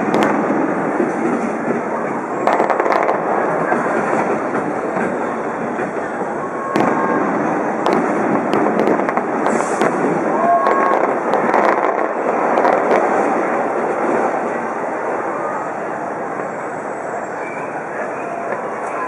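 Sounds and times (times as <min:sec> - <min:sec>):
sharp firework reports: 0:00.0 - 0:16.2
fireworks bursting and crackling: 0:00.0 - 0:19.0.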